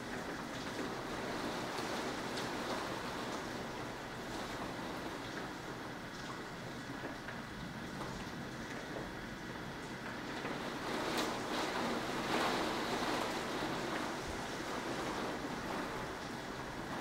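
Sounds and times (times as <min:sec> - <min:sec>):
wind and rain rushing: 0:00.0 - 0:17.0.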